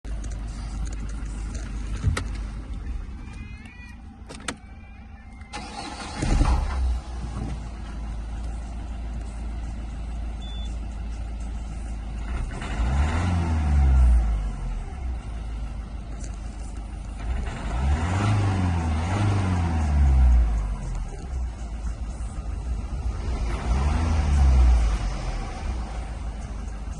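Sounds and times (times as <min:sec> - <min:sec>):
diesel engine idling and revving: 0:00.0 - 0:26.9.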